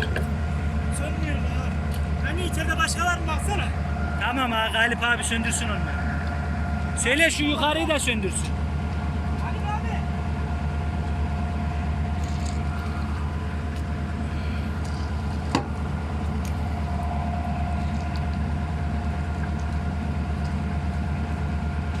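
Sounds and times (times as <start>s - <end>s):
locomotive diesel engine idling: 0.0s - 22.0s.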